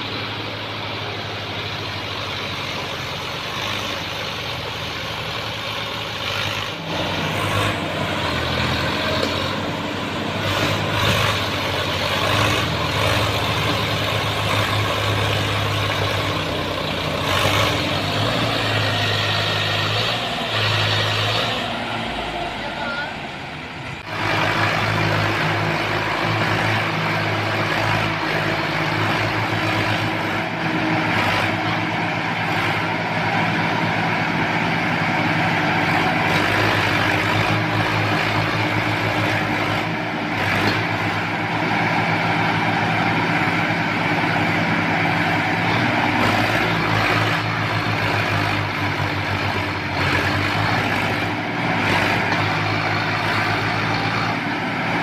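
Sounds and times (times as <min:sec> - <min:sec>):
diesel tractor engines under load: 0:00.0 - 0:55.0.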